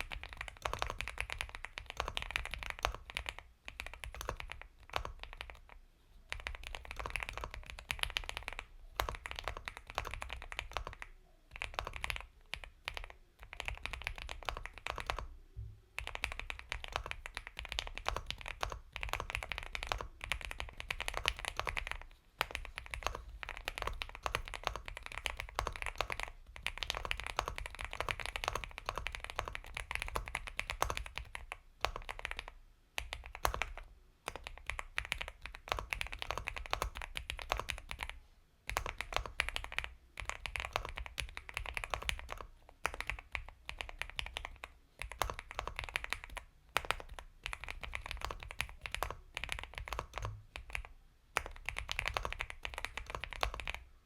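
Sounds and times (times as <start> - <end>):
mechanical keyboard typing: 0.0 - 15.3, 16.0 - 53.9.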